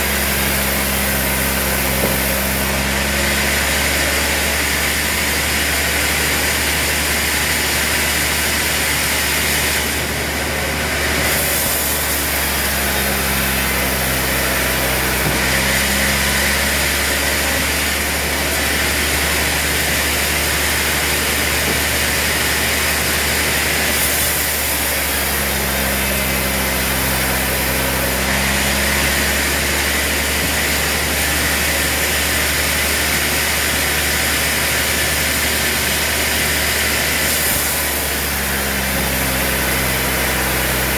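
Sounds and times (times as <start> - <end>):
deep droning tone with hiss: 0.0 - 40.9
sawmill machinery running: 0.0 - 40.9.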